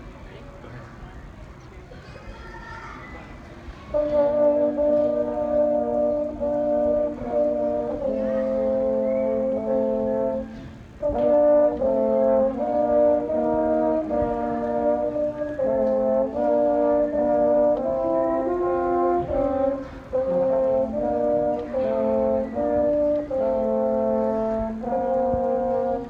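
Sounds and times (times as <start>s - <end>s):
french horn melody: 3.9s - 26.0s.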